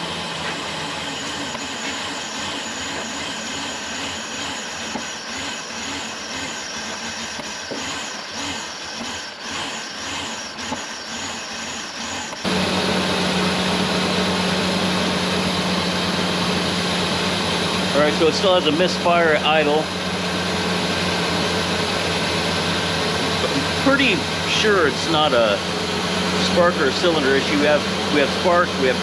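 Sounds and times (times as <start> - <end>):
engine idling with misfire: 0.0 - 29.0.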